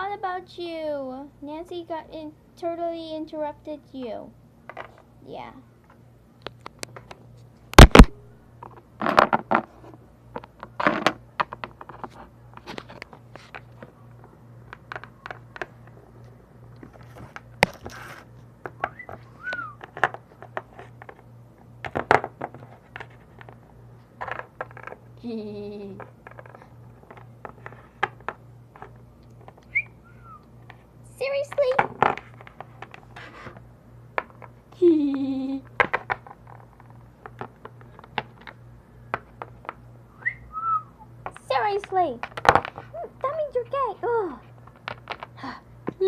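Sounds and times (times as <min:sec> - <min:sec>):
faint pulsing hum: 0:00.0 - 0:46.0.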